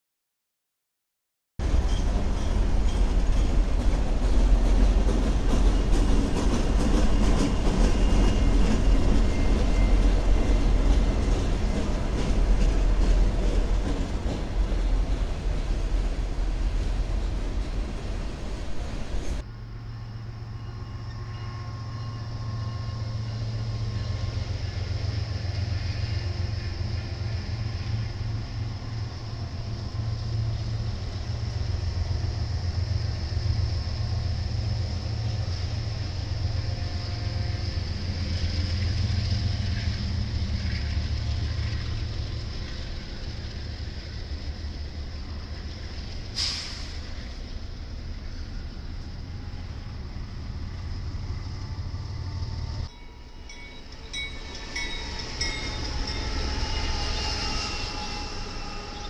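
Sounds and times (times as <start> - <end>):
wheels clacking on rails: 1.6 - 19.4, 20.4 - 59.0
freight train passing: 1.6 - 59.0.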